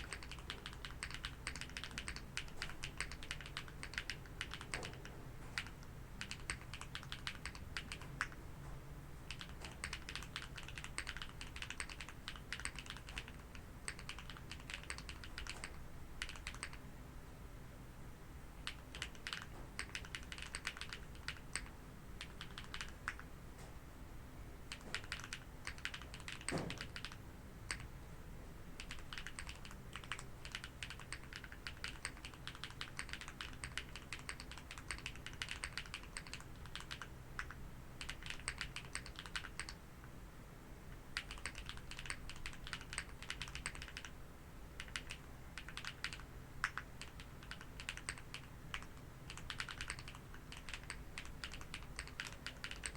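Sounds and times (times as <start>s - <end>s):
mechanical keyboard typing: 0.0s - 8.4s, 9.3s - 16.8s, 18.6s - 23.3s, 24.7s - 27.9s, 28.8s - 39.8s, 40.9s - 44.2s, 44.8s - 52.9s.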